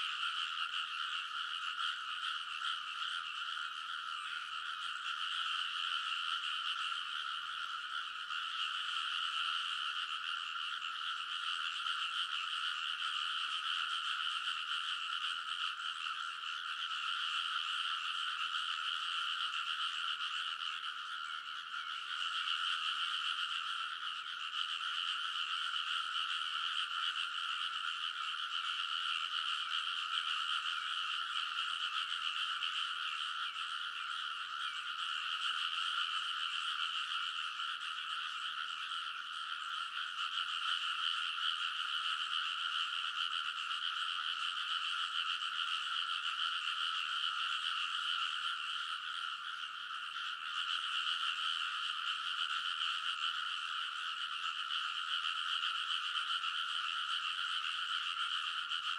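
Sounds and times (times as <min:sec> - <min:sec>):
chorus of frogs croaking: 0:00.0 - 0:58.9.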